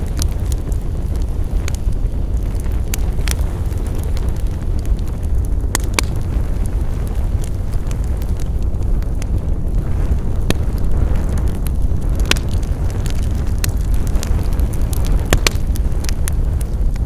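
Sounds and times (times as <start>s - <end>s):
burning wood popping: 0.0s - 17.0s
low rumble of flames: 0.0s - 17.0s
wood fire crackling: 0.0s - 17.0s.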